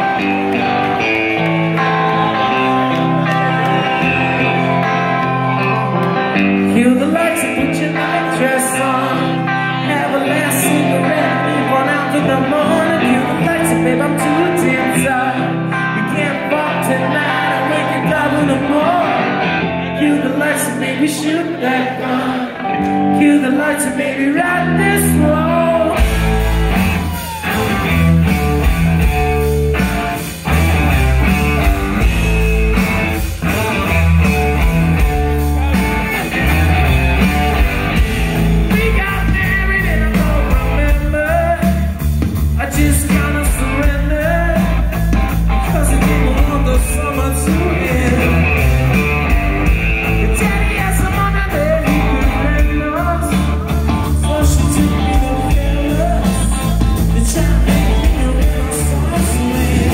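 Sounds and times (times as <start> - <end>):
drums: 0.0 - 22.1, 22.7 - 59.9
bass guitar: 0.0 - 59.9
electric guitar: 0.0 - 59.9
singer's vocal: 1.8 - 28.1, 35.5 - 59.9.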